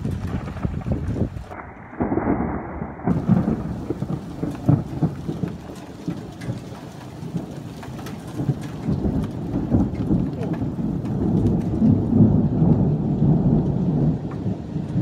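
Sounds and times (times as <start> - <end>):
rain pattering on surfaces: 0.0 - 15.0
thunder rumbling: 0.0 - 15.0.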